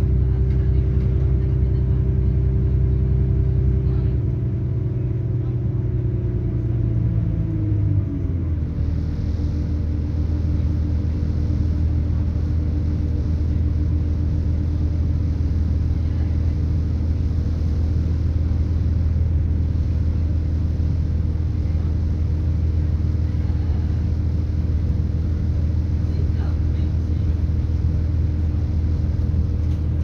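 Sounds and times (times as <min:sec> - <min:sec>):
diesel engine drone: 0:00.0 - 0:30.0
train rumble: 0:00.0 - 0:30.0.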